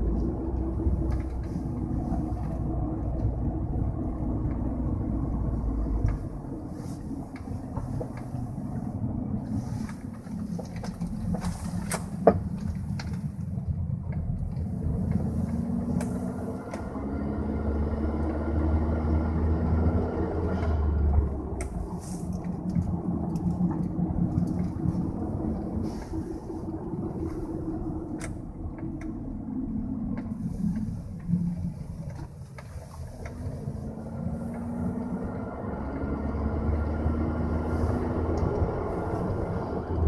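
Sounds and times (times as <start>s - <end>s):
car engine: 0.0s - 40.0s
road noise: 0.0s - 40.0s.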